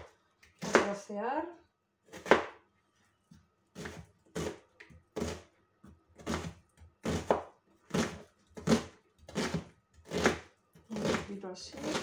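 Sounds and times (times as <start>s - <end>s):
knife chopping onion on board: 0.0s - 1.0s, 2.1s - 2.6s, 3.7s - 12.0s.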